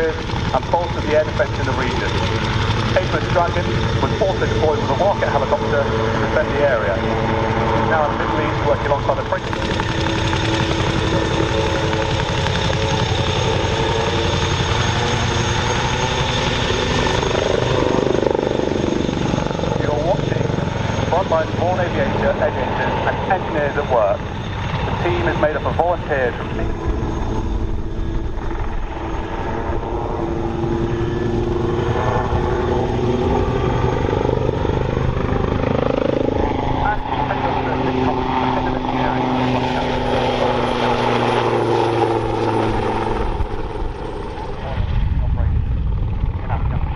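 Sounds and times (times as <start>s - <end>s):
helicopter rotor chop: 0.0s - 46.9s
high turbine whine: 0.0s - 46.9s.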